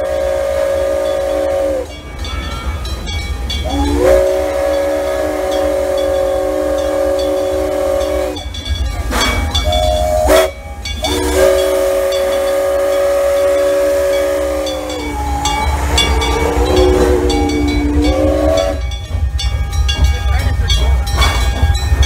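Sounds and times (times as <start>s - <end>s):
locomotive rumble: 0.0s - 22.0s
steam locomotive chime whistle: 0.0s - 22.0s.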